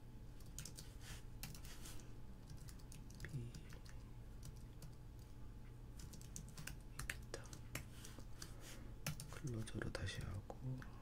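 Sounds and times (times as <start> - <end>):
computer keyboard typing: 0.4 - 1.8, 2.4 - 5.4, 6.0 - 10.4.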